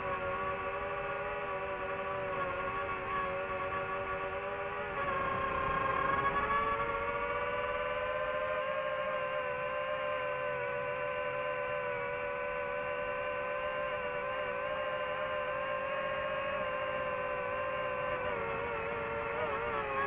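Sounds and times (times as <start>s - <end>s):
drone propeller whine: 0.0s - 20.0s.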